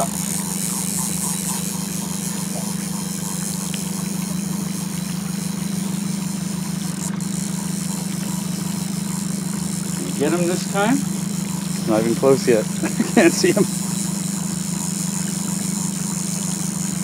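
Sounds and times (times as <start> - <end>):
boat motor idling: 0.0 - 17.0.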